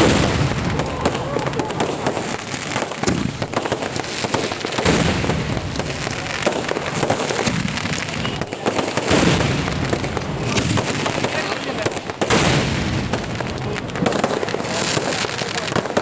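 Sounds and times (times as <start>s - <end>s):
fireworks crackling bangs: 0.0s - 16.0s.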